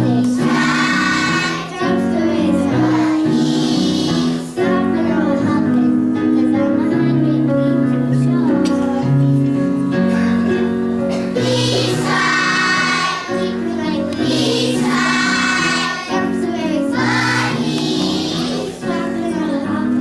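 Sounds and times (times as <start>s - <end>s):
children's song sung in chorus: 0.0s - 7.4s, 11.1s - 20.0s
instrumental backing: 0.0s - 20.0s.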